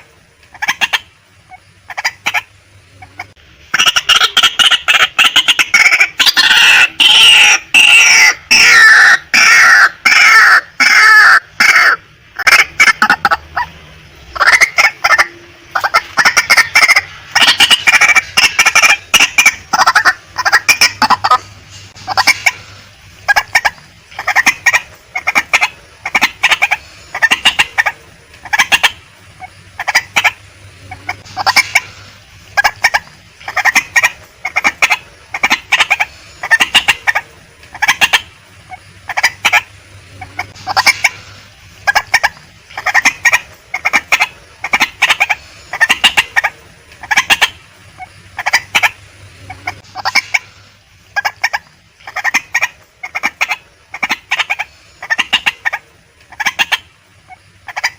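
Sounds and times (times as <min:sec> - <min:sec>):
waterhen calling harsh notes: 0:00.0 - 0:57.9.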